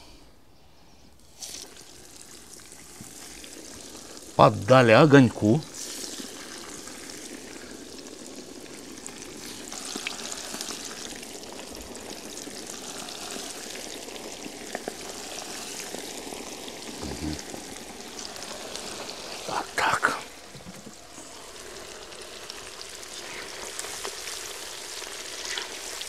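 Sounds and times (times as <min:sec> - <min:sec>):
fish deep-frying in hot oil: 0:01.2 - 0:26.0.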